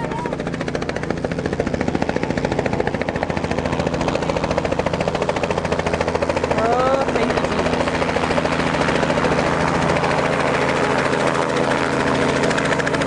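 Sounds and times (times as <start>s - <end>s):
helicopter engine drone: 0.0s - 13.0s
helicopter rotor chopping: 0.0s - 13.0s.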